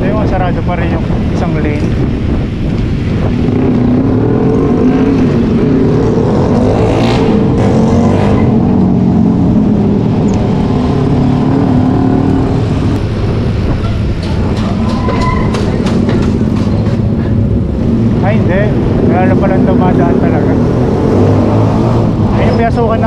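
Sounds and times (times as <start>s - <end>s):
low road rumble: 0.0s - 23.0s.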